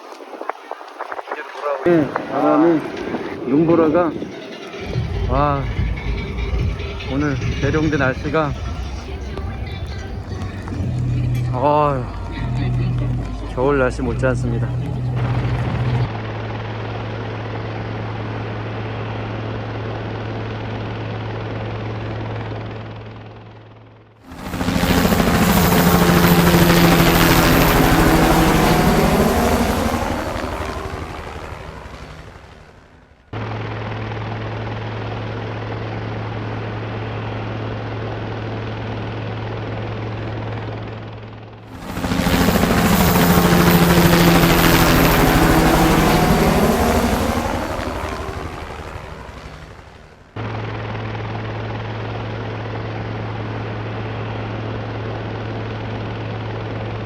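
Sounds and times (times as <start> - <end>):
helicopter flying past: 1.8 - 57.0
steady low hum: 1.9 - 21.6, 24.3 - 54.6.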